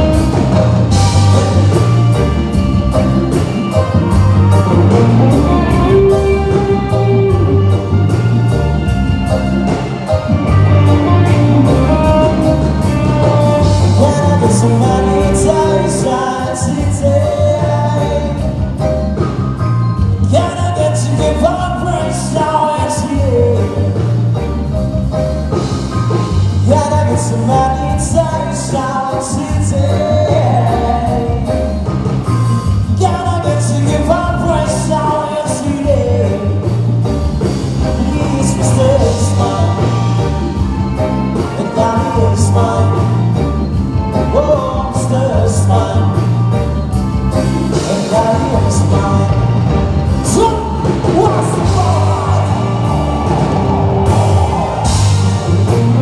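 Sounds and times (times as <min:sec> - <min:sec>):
person singing: 0:00.0 - 0:19.4, 0:20.0 - 0:24.9, 0:26.6 - 0:32.2, 0:32.9 - 0:56.0
live band playing: 0:00.0 - 0:56.0.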